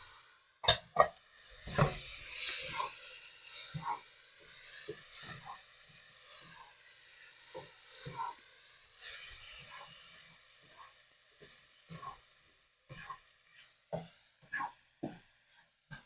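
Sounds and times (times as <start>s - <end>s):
vegetables sizzling in a skillet: 0.0s - 16.0s.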